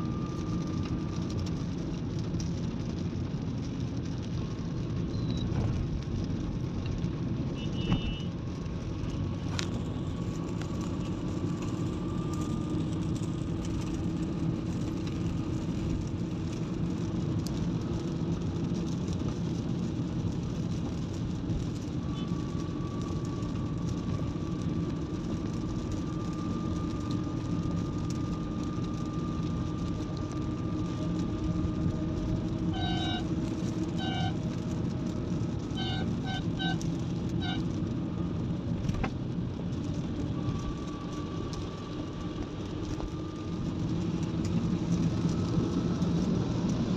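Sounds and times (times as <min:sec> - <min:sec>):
engine and road rumble: 0:00.0 - 0:46.9
tyres hissing on wet road: 0:00.4 - 0:46.9.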